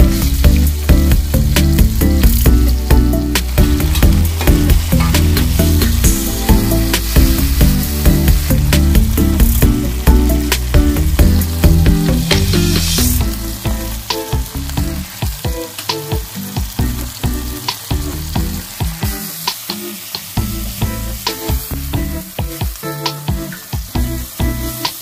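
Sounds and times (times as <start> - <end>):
food sizzling in oil: 0.0 - 25.0
instrumental background music: 0.0 - 25.0.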